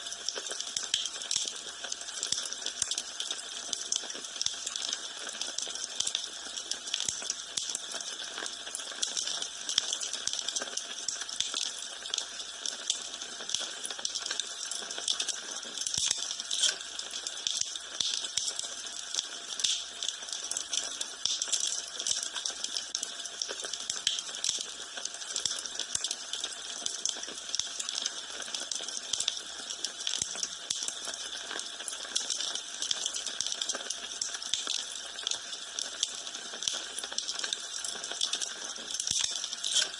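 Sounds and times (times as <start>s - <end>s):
wood fire crackling and popping: 0.2s - 28.2s, 32.1s - 39.9s.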